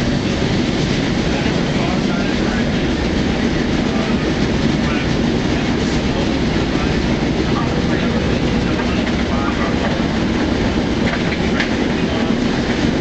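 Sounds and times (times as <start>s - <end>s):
steel wheels rumbling on rail: 0.0s - 13.0s.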